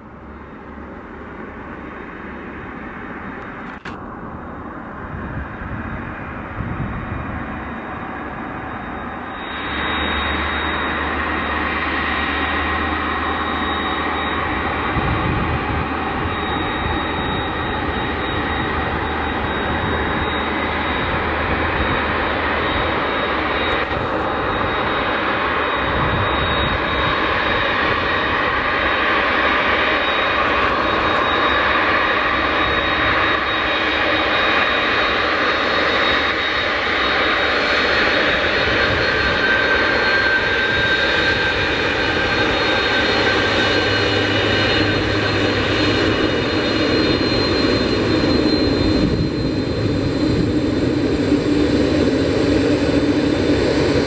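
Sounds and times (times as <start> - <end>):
jet engines rushing: 0.0 - 54.0
thin high jet whine: 0.0 - 54.0.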